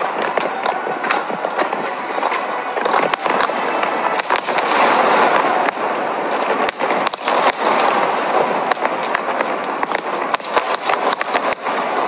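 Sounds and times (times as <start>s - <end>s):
continuous dense din: 0.0s - 12.0s
fireworks banging and crackling: 0.0s - 12.0s.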